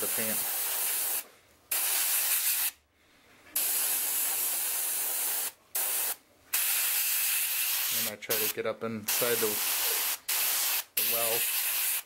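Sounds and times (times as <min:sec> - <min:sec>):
airbrush spraying hiss: 0:00.0 - 0:02.8, 0:03.6 - 0:12.0.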